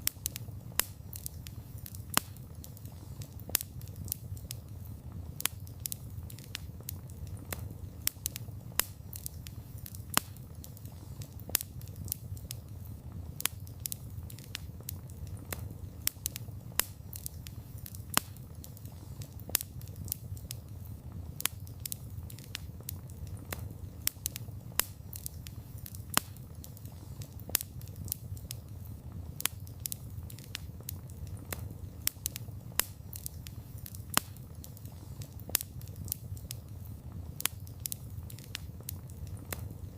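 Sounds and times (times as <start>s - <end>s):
campfire flames rushing: 0.0s - 39.9s
logs crackling and popping: 0.0s - 39.9s.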